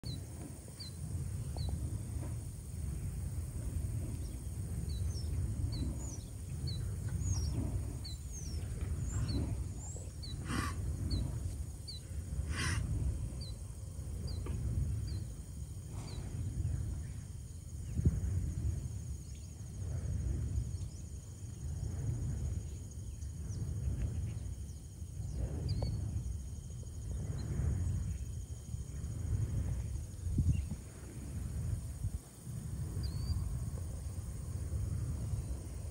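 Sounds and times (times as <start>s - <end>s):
wind rumble on microphone: 0.0s - 35.9s.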